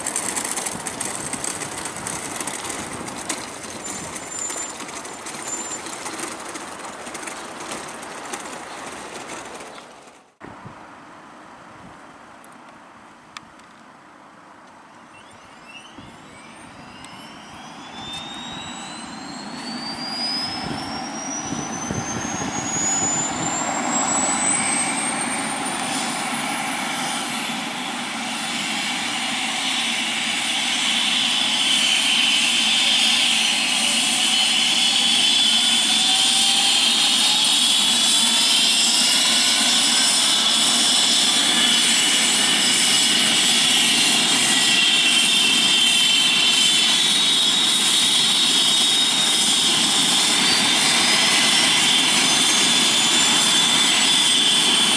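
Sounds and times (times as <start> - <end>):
helicopter rotor running: 0.0 - 10.3, 16.2 - 54.9
helicopter turbine whine: 0.0 - 10.4, 15.2 - 54.9.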